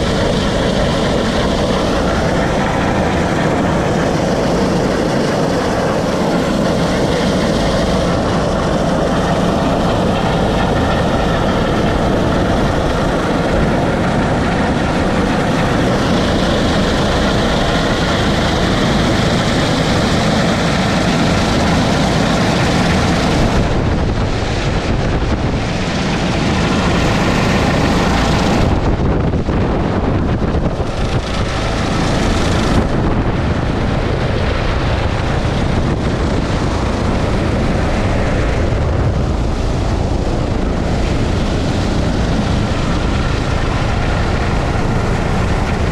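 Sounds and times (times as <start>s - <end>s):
helicopter hovering overhead: 0.0s - 45.9s
wind rushing over microphone: 0.0s - 45.9s.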